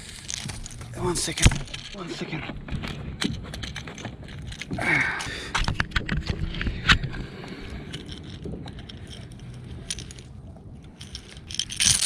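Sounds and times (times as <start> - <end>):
fishing lure clicks and scrapes: 0.0 - 4.8, 5.5 - 12.0
quiet rustling: 0.0 - 12.0.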